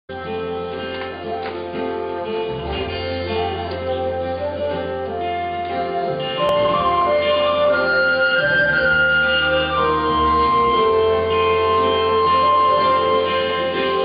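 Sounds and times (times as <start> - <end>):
acoustic guitar: 0.1 - 14.0
keyboard held chords: 0.1 - 14.0
higher melody line: 1.3 - 14.0.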